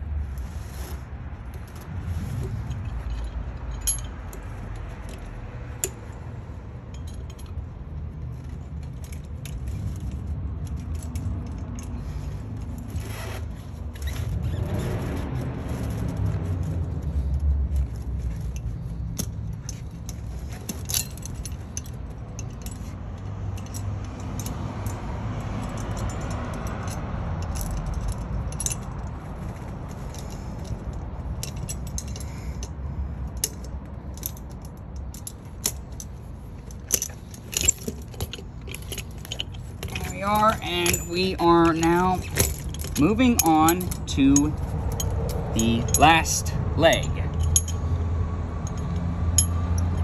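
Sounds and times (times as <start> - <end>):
steady low rumble: 0.0 - 50.0
chain links clinking and jangling: 0.2 - 50.0.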